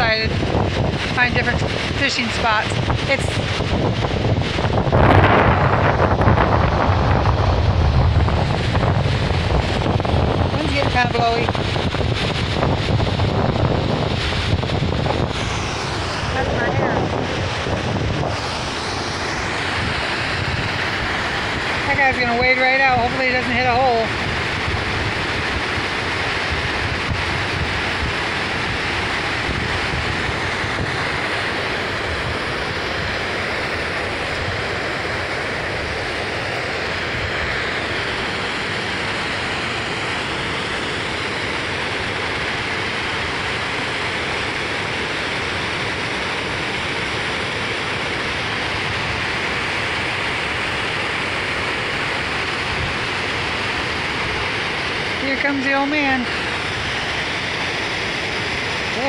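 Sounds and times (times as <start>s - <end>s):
water rushing over dam: 0.0s - 59.0s
wind buffeting microphone: 0.0s - 59.0s.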